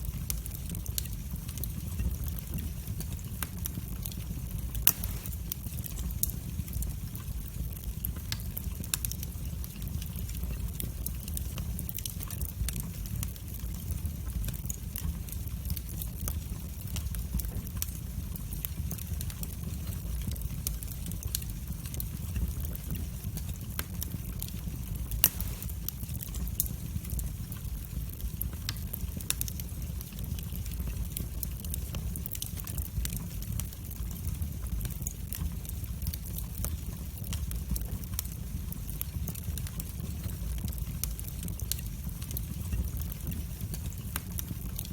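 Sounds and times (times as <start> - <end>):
fire popping: 0.0 - 44.9
fire rumbling and crackling: 0.0 - 44.9.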